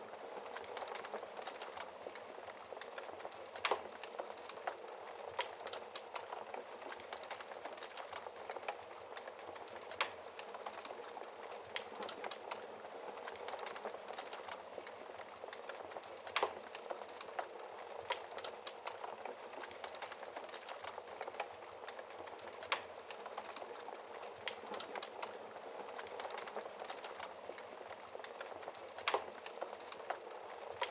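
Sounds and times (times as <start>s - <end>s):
fire crackling: 0.0s - 30.9s.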